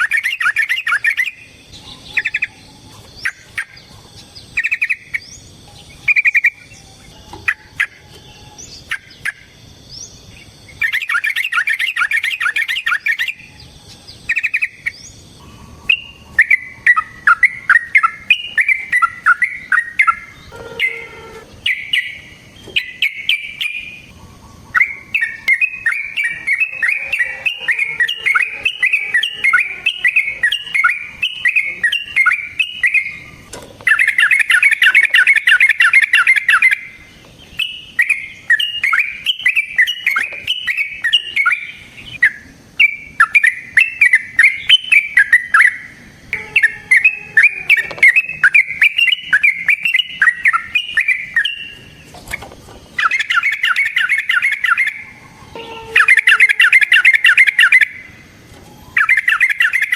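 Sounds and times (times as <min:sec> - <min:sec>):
bulbul singing bubbly chirps: 0:00.0 - 0:52.1, 0:52.9 - 0:59.9.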